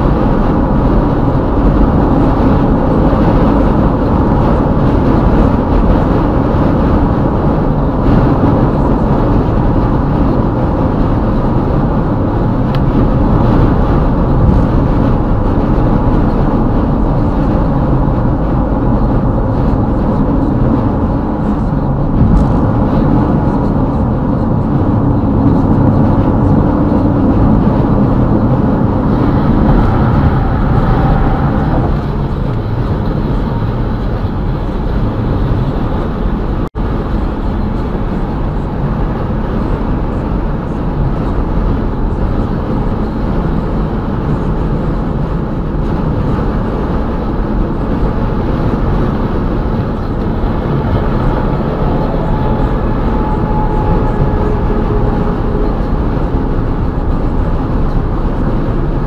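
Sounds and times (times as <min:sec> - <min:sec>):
car road and tyre noise: 0:00.0 - 0:59.0.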